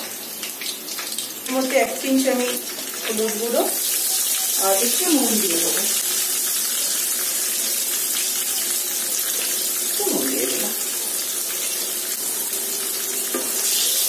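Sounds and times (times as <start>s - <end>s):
potatoes sizzling in hot oil: 0.0s - 14.0s.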